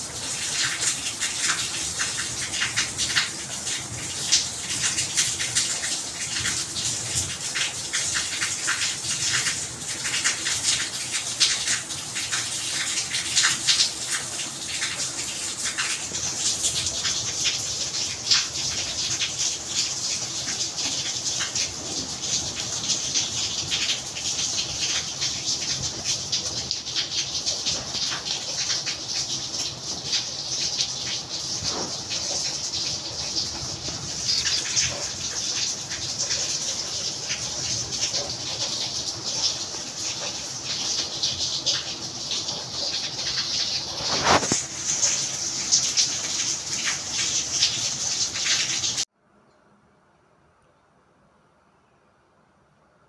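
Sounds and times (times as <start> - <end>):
drips splashing on hard surfaces: 0.0 - 49.1
steady rain: 0.0 - 49.1.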